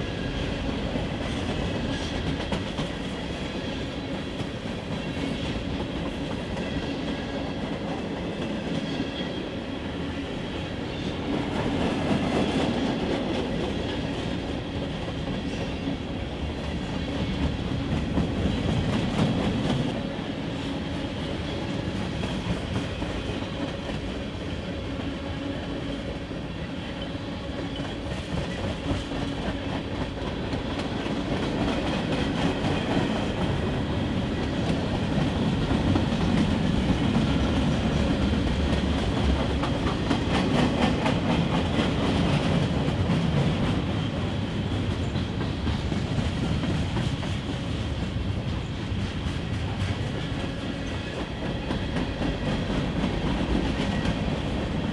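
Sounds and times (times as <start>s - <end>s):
freight train cars rolling: 0.0s - 54.9s.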